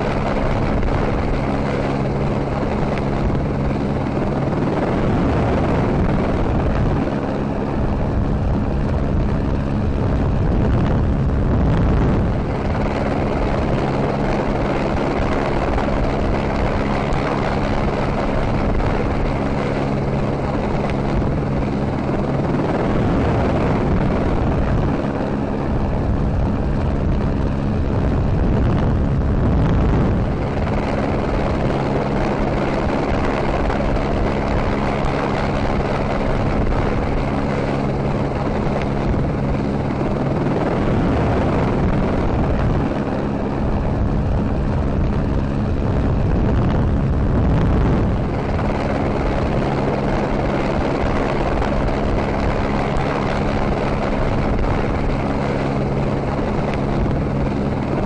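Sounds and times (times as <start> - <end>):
helicopter droning in flight: 0.0 - 58.0.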